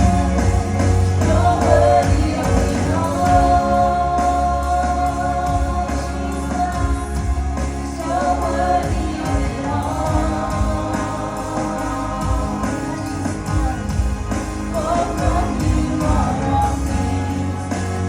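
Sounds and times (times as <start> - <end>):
gospel band playing: 0.0 - 18.0
people singing: 0.0 - 18.0.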